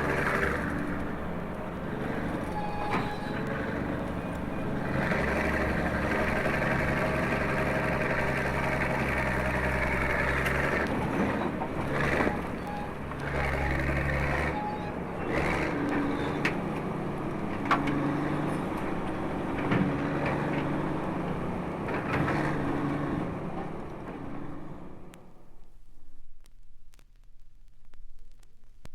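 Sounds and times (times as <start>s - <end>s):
large engine droning: 0.0s - 25.3s.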